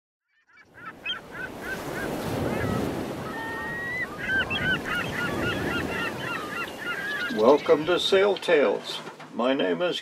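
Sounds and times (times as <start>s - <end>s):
waterbirds calling: 0.3s - 10.0s
wind: 0.3s - 10.0s
waves: 0.7s - 10.0s.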